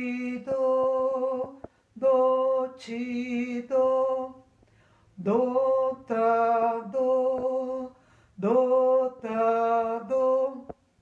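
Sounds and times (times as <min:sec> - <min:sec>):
woman singing unaccompanied: 0:00.0 - 0:04.5, 0:05.2 - 0:10.9.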